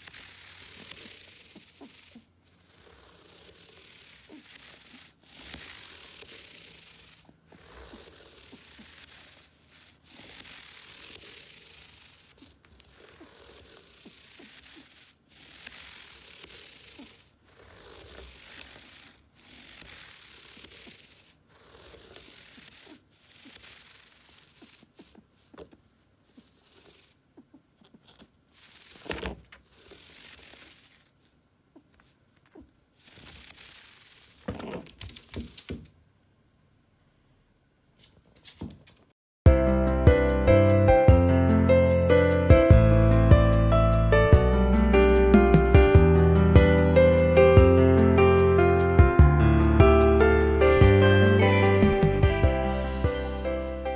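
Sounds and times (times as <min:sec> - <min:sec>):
rough scraping and rustling: 0:00.0 - 0:35.8, 0:43.1 - 0:53.9.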